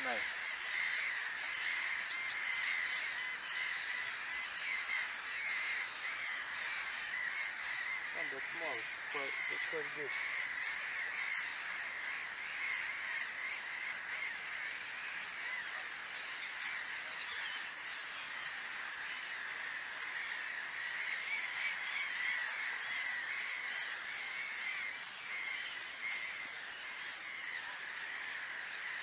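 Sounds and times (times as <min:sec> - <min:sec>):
chorus of harsh animal calls: 0:00.0 - 0:29.0.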